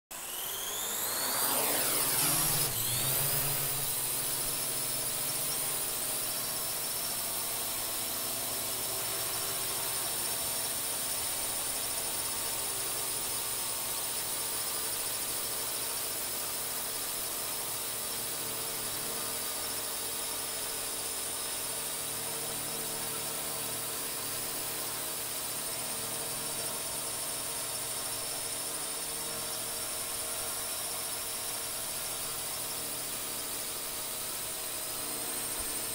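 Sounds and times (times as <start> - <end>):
drone propellers whining: 0.1 - 17.3, 18.1 - 35.9.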